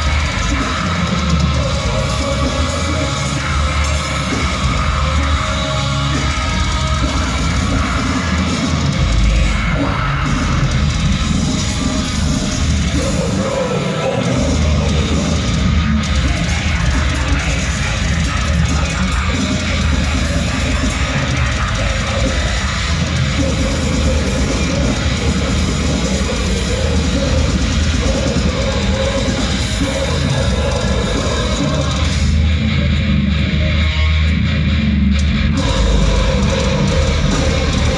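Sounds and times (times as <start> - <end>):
heavy metal band playing live: 0.0 - 37.9.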